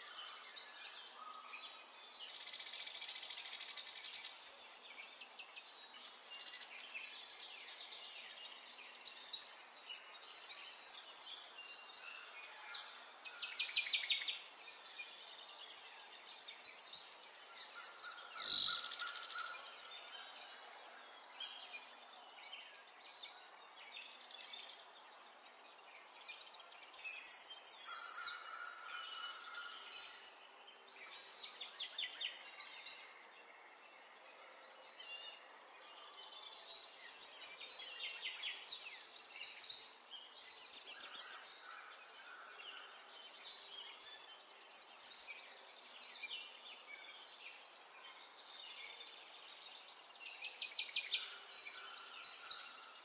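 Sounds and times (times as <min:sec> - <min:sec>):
small birds trilling chirps: 0:00.0 - 0:53.0.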